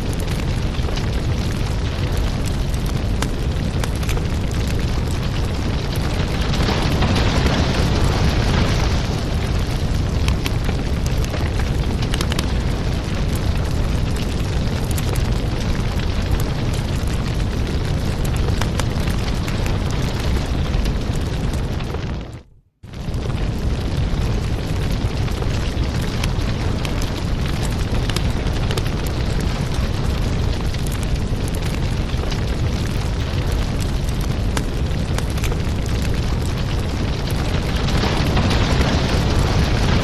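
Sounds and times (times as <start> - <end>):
low rumble of flames: 0.0 - 40.0
wood fire crackling: 0.0 - 40.0.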